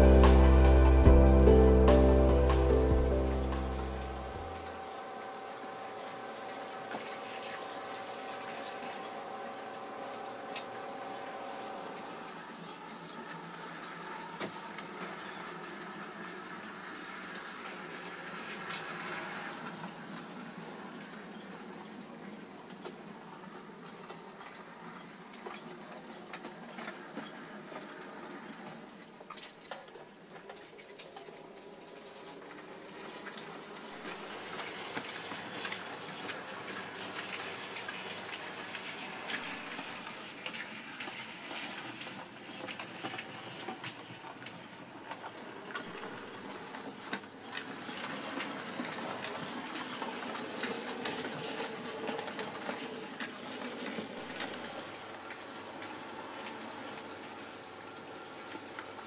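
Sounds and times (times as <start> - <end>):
wheels clicking on rails: 0.0 - 59.0
model train running noise: 4.3 - 29.4, 31.4 - 59.0.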